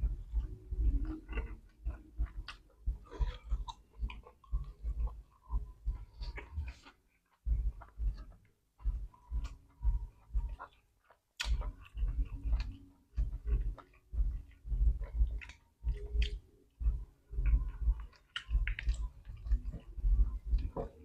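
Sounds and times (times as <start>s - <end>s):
chewing with wet smacks: 0.0s - 21.0s.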